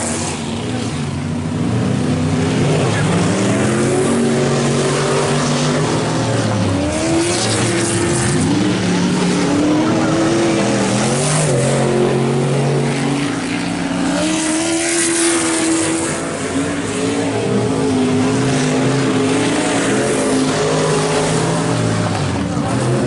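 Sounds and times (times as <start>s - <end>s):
race truck engines: 0.0s - 23.0s.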